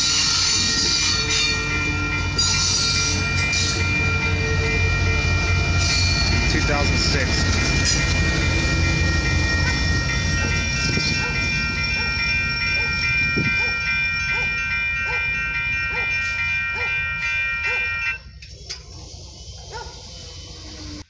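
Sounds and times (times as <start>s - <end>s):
steady high ringing tones: 0.0s - 19.4s
train low rumble: 0.0s - 21.0s.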